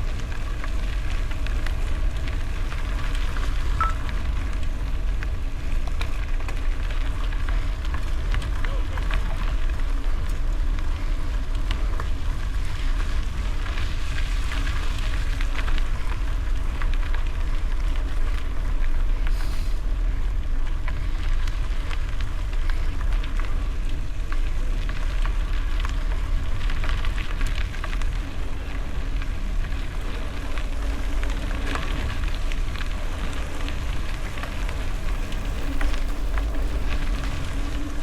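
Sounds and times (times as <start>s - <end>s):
bicycle tyres rolling on gravel: 0.0s - 38.0s
wind rumble on microphone: 0.0s - 38.0s.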